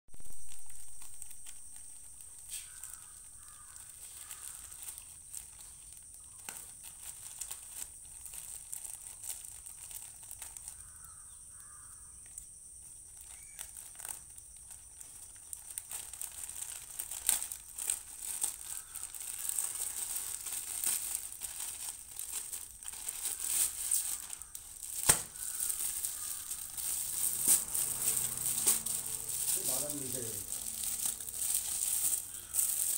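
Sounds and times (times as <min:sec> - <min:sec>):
plastic mailer bag crinkling: 0:00.1 - 0:11.2, 0:13.1 - 0:32.9.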